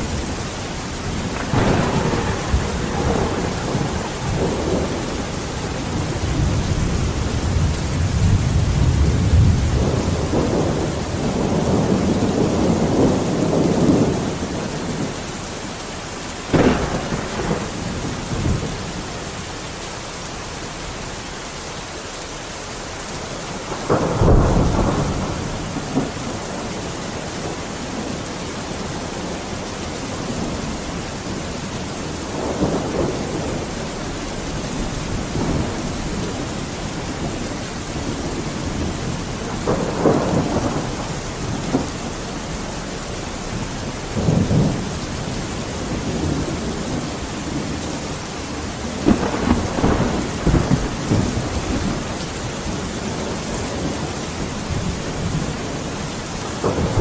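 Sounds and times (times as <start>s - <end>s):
thunder rumbling: 0.0s - 15.2s, 16.5s - 19.4s, 23.5s - 57.0s
heavy rain: 0.0s - 57.0s.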